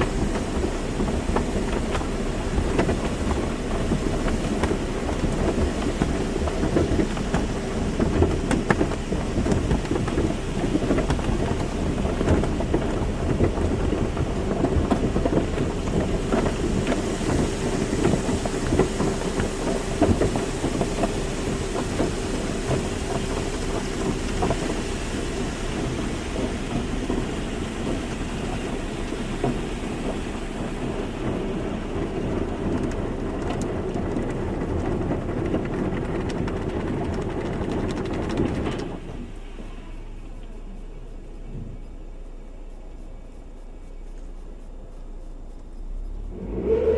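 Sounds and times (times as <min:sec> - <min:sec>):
machine hum: 0:00.0 - 0:46.9
water spray pelting car: 0:00.0 - 0:46.9.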